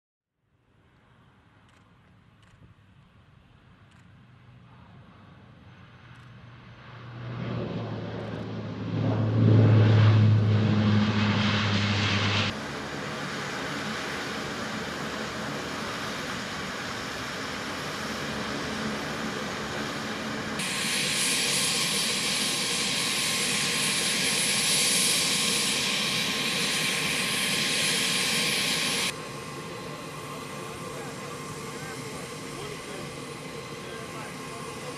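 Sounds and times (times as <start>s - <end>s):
low propeller drone: 0.5s - 34.9s
high turbine whine: 3.2s - 34.9s.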